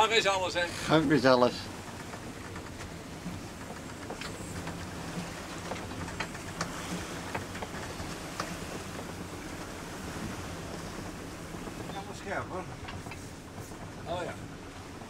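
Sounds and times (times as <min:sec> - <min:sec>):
water rushing past hull: 0:00.0 - 0:15.0.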